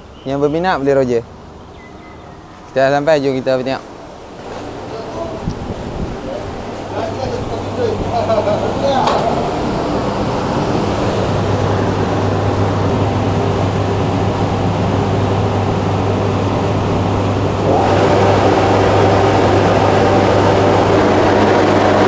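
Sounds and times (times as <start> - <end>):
fans humming: 0.0 - 22.0.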